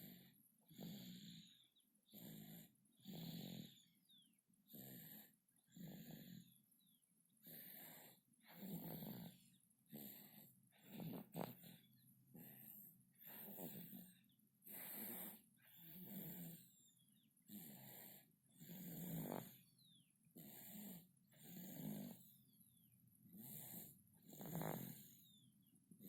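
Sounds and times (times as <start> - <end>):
baby snoring softly: 0.0 - 22.5, 23.3 - 26.0.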